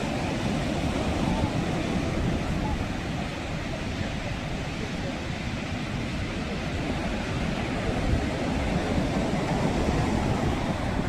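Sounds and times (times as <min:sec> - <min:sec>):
sea waves washing in: 0:00.0 - 0:11.0.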